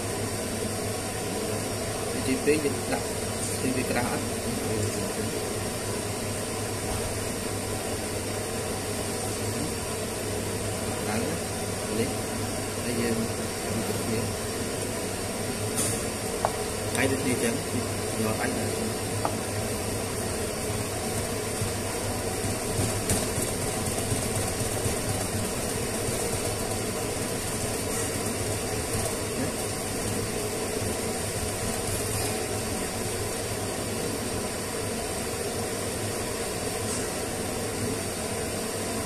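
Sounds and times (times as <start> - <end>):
mechanical drone with hiss: 0.0 - 39.0.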